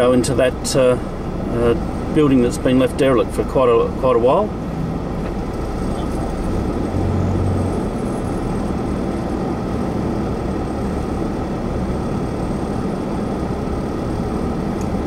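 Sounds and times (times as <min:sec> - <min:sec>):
car engine and road noise: 0:00.0 - 0:15.0
low hum: 0:00.0 - 0:15.0.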